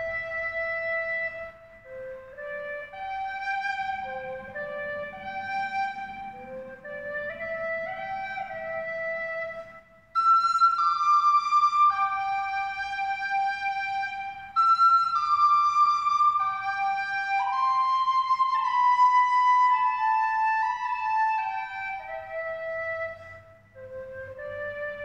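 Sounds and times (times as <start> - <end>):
slow flute-like melody: 0.0 - 25.0.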